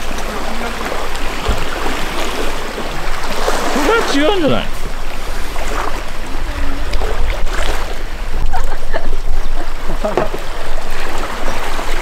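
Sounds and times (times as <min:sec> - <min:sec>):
sea water rushing: 0:00.0 - 0:12.0
wind: 0:00.0 - 0:12.0.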